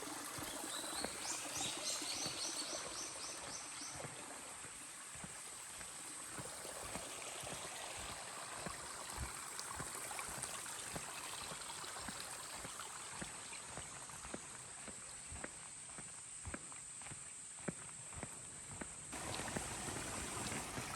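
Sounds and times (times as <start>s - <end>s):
rushing mountain stream: 0.0s - 15.2s, 19.1s - 20.9s
light footsteps on trail: 0.0s - 20.9s.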